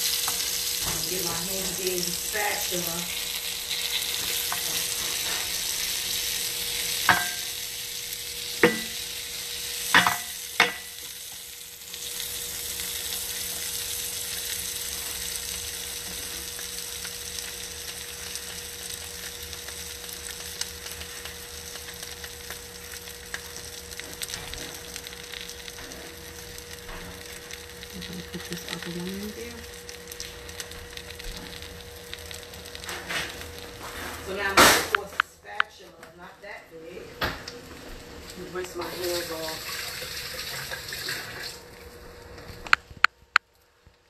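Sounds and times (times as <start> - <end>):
bread sizzling in butter: 0.0 - 35.2, 36.8 - 44.0.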